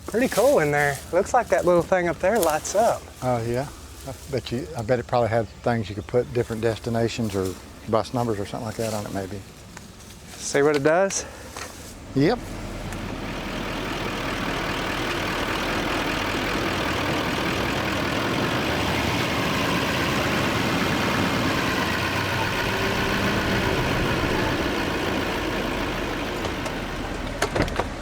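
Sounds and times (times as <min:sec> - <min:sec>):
truck engine straining: 0:00.0 - 0:28.0.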